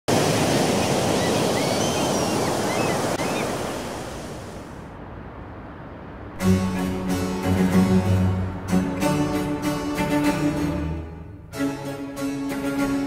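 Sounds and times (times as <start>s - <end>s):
sea surf washing: 0.1s - 11.0s.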